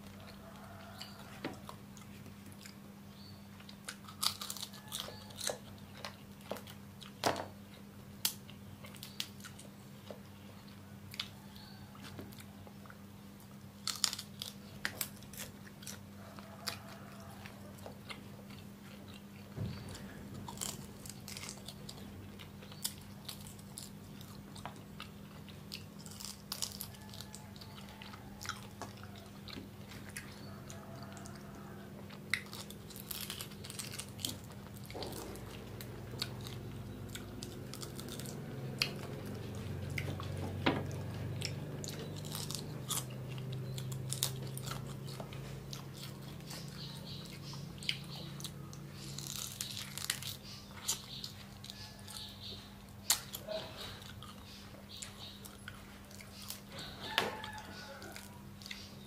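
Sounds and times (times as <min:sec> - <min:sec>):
person chewing crunchy beetles: 0:00.0 - 0:59.0
steady low hum: 0:00.0 - 0:59.0.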